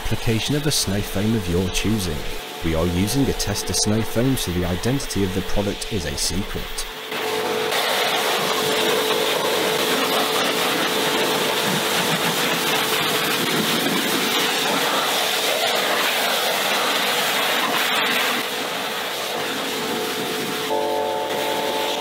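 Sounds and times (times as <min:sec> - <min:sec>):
pressure washer spraying water: 0:00.0 - 0:22.0.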